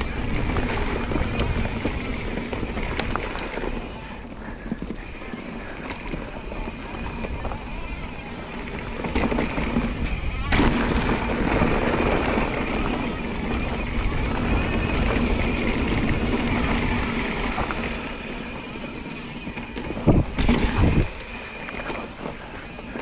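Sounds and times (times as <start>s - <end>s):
tyres rumbling over dirt: 0.0s - 23.0s
wind buffeting microphone: 0.0s - 23.0s.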